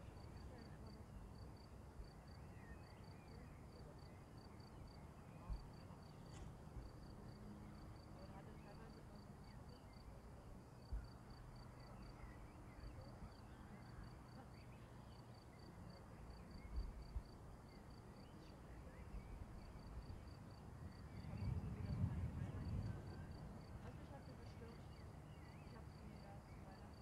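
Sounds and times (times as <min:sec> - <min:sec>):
faint insect chirping: 0:00.0 - 0:27.0.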